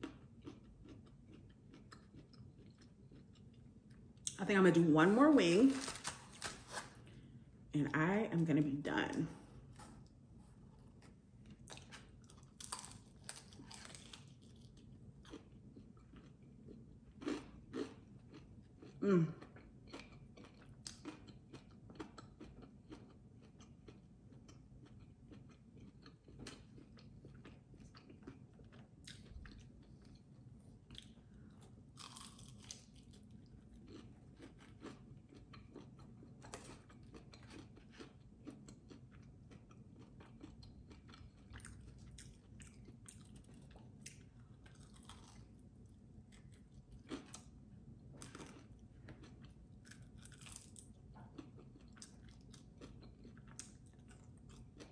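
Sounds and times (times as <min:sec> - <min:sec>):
person chewing crispy food: 0:00.0 - 0:04.4, 0:09.4 - 0:54.9.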